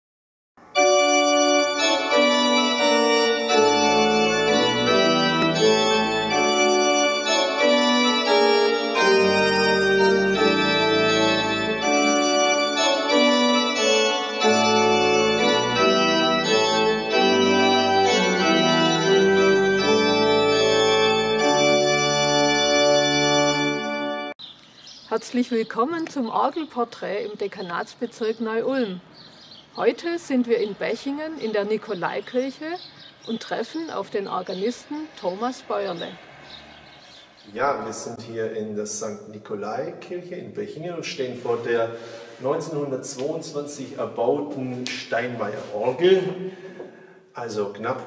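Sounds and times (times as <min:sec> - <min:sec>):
organ music: 0:00.6 - 0:24.4, 0:30.8 - 0:46.8.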